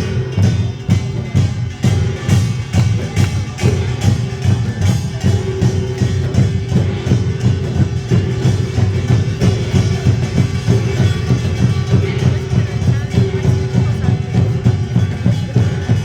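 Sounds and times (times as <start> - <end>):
drums and percussion beating: 0.0 - 16.0.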